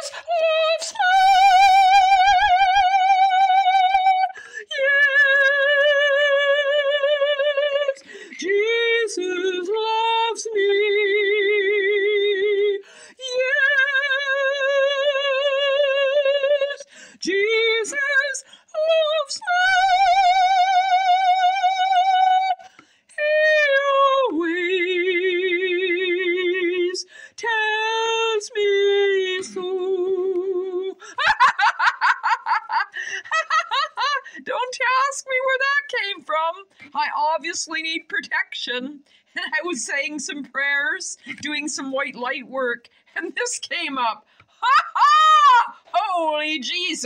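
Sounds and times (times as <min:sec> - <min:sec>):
woman singing unaccompanied: 0:00.0 - 0:47.0.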